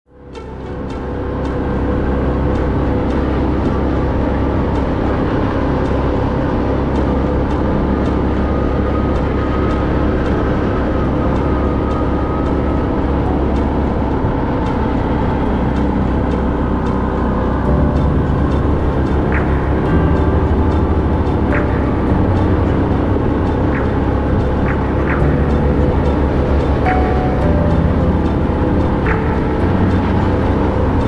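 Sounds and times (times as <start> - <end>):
vehicle engine drone: 0.1 - 31.0.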